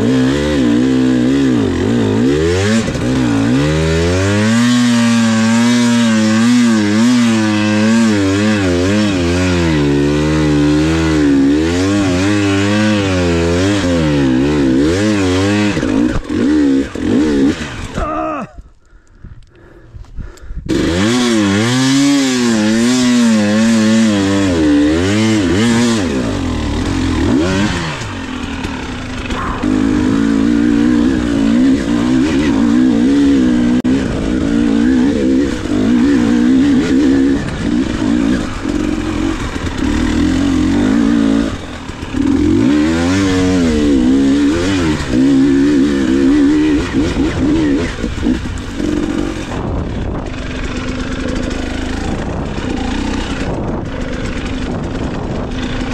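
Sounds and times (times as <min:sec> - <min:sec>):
dirt bike engine revving: 0:00.0 - 0:18.5, 0:20.7 - 0:55.9.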